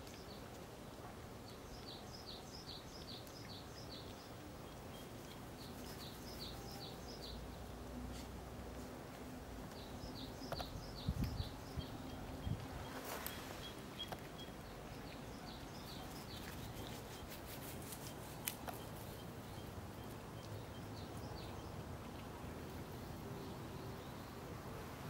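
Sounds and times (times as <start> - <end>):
small birds chirping: 0.0 - 24.7
faint outdoor hiss: 0.0 - 25.0.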